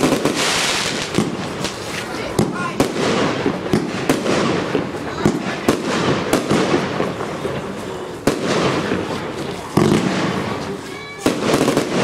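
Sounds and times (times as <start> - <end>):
fireworks hissing: 0.0 - 12.0
fireworks shot reports: 0.0 - 12.0.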